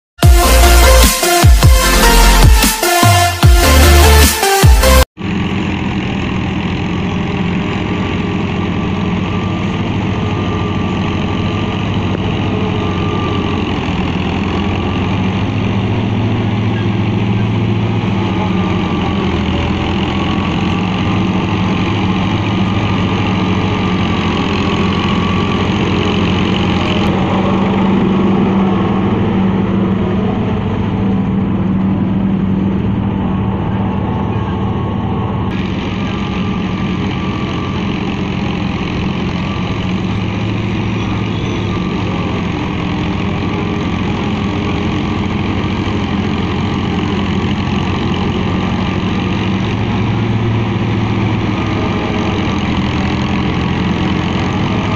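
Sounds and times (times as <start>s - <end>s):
tractor diesel engines running: 0.2s - 54.9s.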